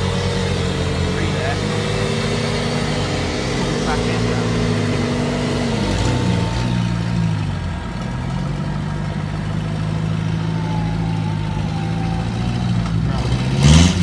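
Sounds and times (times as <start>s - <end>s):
off-road vehicle engine running: 0.0s - 14.0s.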